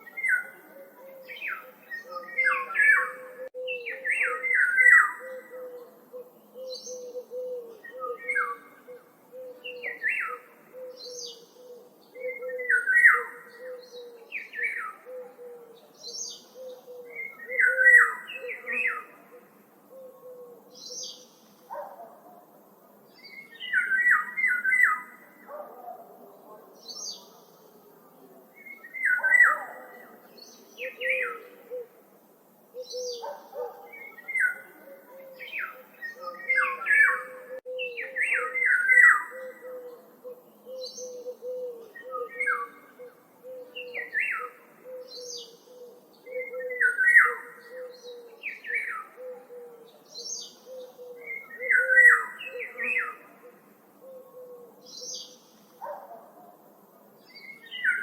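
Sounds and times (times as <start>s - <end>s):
songbirds calling: 0.0s - 58.0s.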